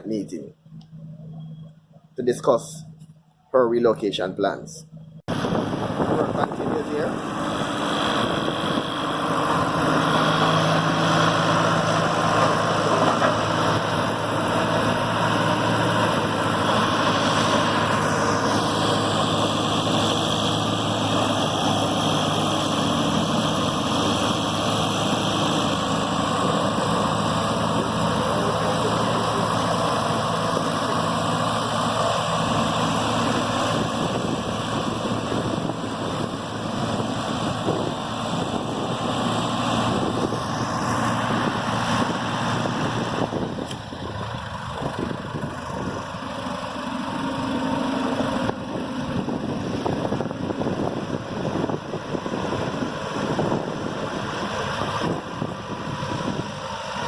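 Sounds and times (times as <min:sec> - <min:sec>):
engine idling: 0:04.8 - 0:57.0.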